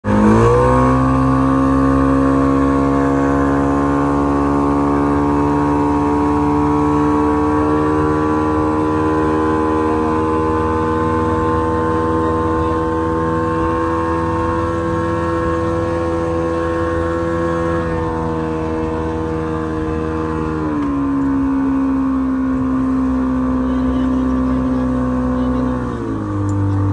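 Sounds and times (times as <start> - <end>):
outboard motor running: 0.0 - 26.9.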